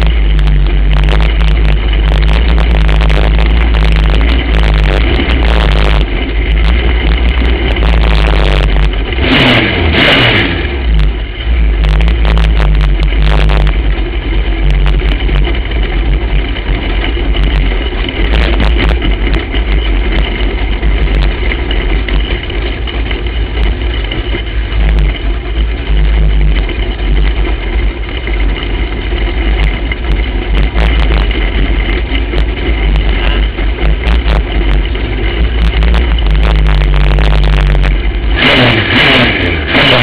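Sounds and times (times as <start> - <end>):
kart engine running at low speed: 0.0 - 40.0.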